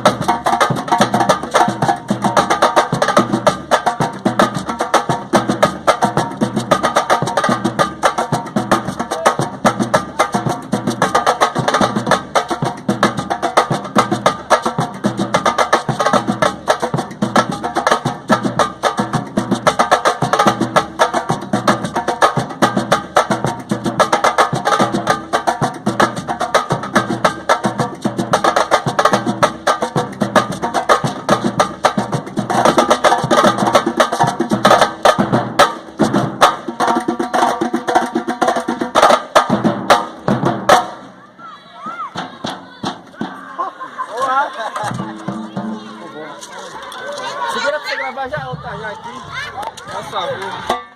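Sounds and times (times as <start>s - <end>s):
percussion ensemble drumming: 0.0s - 50.9s.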